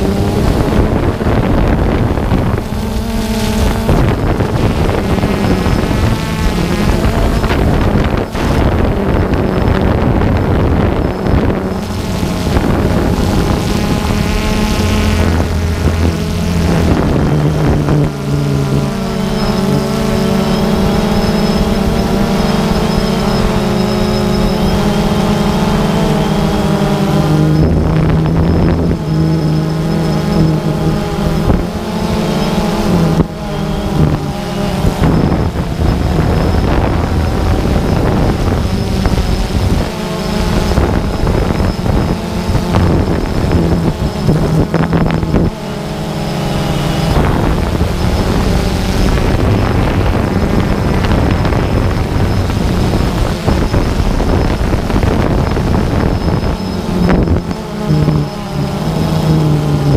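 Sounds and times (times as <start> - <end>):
drone propellers droning: 0.0 - 59.9
wind buffeting microphone: 0.0 - 59.9.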